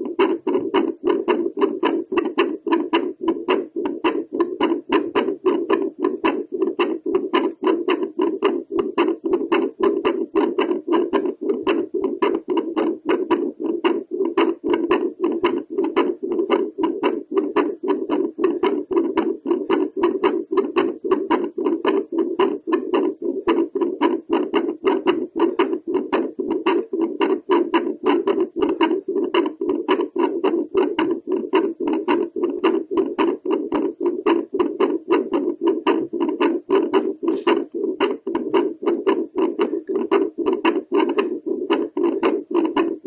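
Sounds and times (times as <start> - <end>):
doppler heartbeat whooshing pulses: 0.0 - 43.0
heart valve clicks: 0.0 - 43.0.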